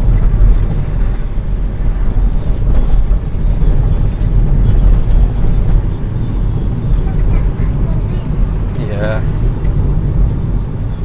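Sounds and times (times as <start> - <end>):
wind and road noise from vehicle: 0.0 - 11.0.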